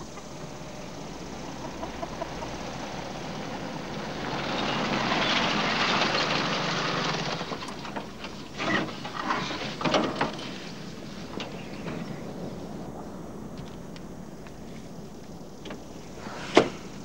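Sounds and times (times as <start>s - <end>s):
car engine and tyres: 0.0s - 17.0s.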